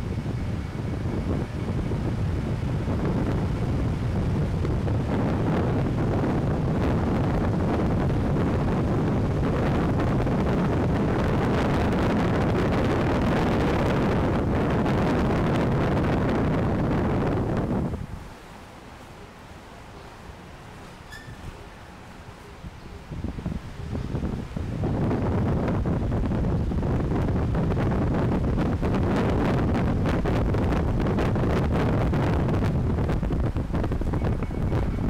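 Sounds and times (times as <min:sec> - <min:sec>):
wind rushing on microphone: 0:00.0 - 0:19.0, 0:19.8 - 0:35.0.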